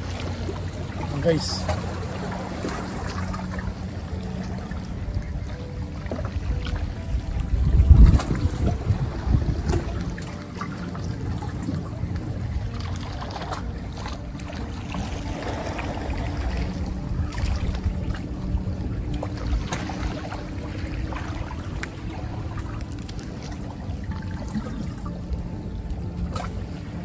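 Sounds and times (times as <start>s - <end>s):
steady low rumble: 0.0s - 27.0s
water lapping among rocks: 0.0s - 27.0s.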